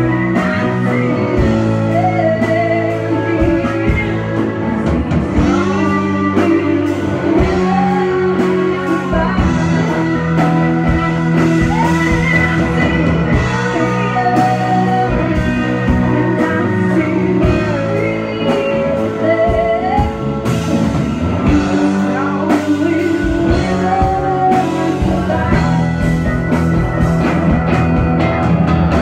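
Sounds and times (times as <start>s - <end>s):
bass guitar: 0.0s - 29.0s
drums steady beat: 0.0s - 29.0s
electric guitars: 0.0s - 29.0s.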